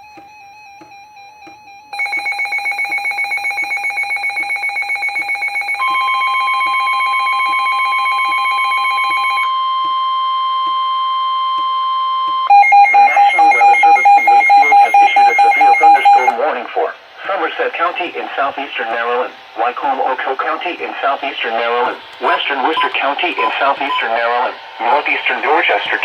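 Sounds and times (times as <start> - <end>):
pulsing two-pitch alarm: 0.0 - 16.4, 21.4 - 26.0
steady single-pitch alarm tone: 0.0 - 16.5, 17.6 - 26.0.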